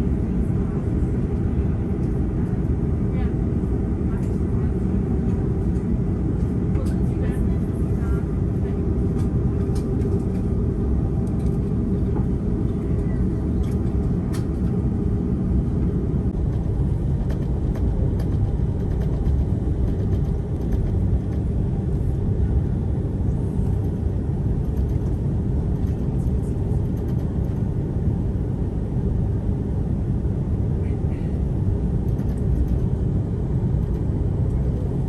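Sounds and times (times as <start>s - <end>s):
airplane cabin rumble while taxiing: 0.0s - 35.0s.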